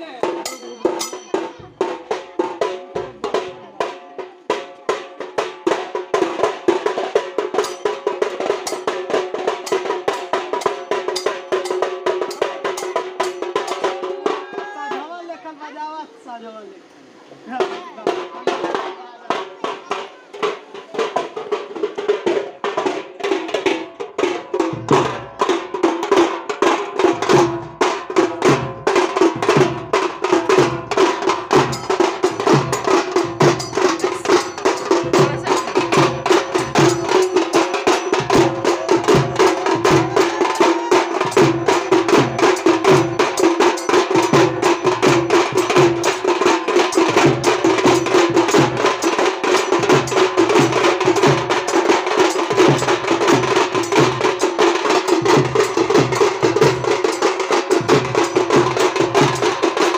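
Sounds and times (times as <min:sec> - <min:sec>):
deep drum beat: 0:00.0 - 0:15.1, 0:17.6 - 0:59.9
drums in fast rolling rhythm: 0:00.0 - 0:16.4, 0:17.5 - 0:59.9.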